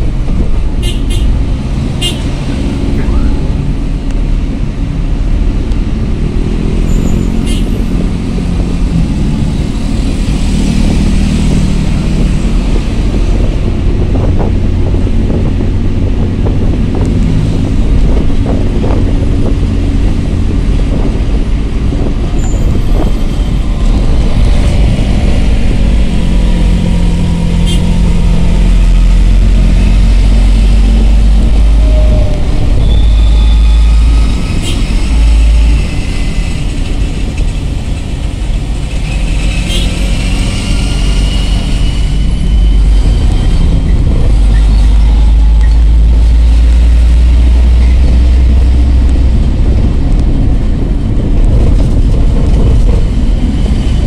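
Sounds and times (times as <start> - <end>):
minibus engine and road rumble: 0.0 - 54.0.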